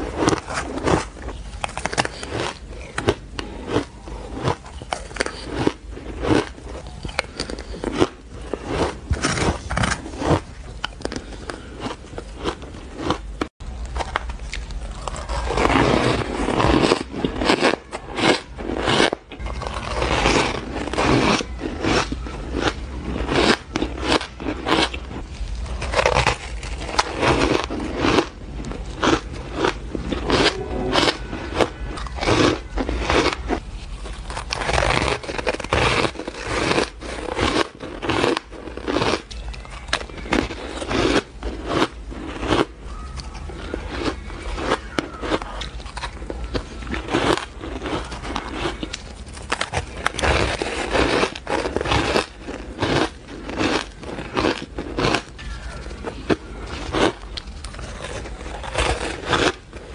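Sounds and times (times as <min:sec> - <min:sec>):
ice crunching while chewed: 0:00.0 - 0:59.9.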